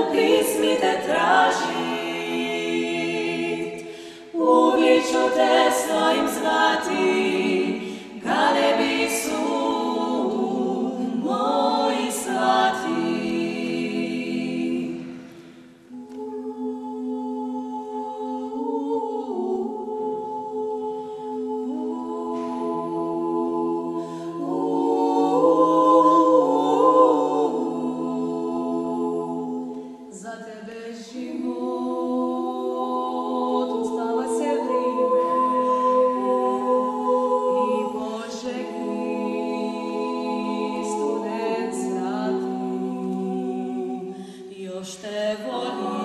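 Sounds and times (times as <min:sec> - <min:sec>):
women singing in harmony: 0:00.0 - 0:46.0.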